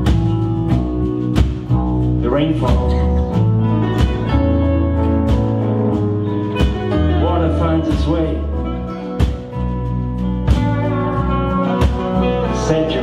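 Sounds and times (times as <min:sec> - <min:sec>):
country folk band playing: 0:00.0 - 0:13.0.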